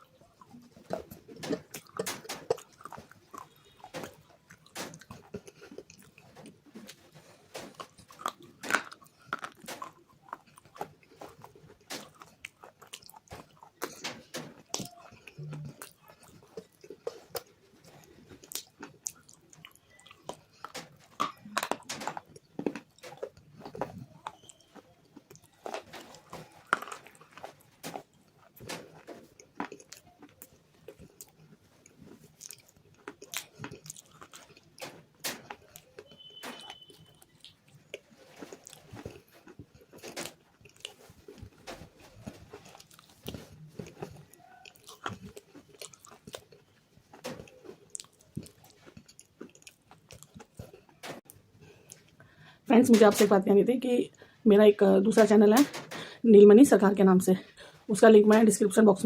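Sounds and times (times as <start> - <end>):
chewing: 0.0 - 52.6
crunchy clay cracking: 0.0 - 53.2.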